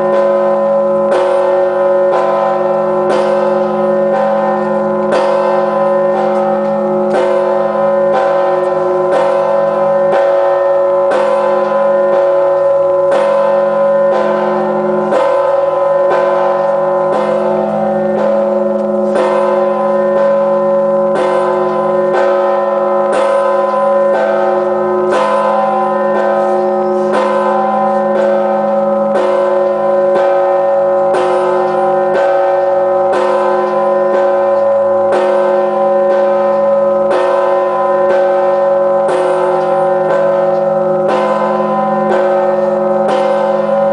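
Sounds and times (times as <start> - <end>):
church bell striking: 0.0 - 43.9.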